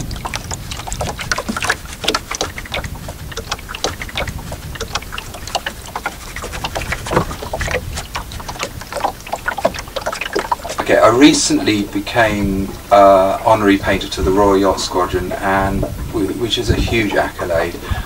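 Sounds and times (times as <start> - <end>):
low wind rumble: 0.0 - 18.0
small waves lapping against hull: 0.0 - 18.0.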